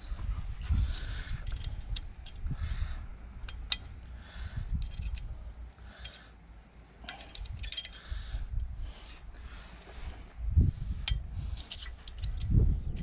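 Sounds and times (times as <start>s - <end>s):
wind on microphone: 0.0s - 5.5s, 7.4s - 13.0s.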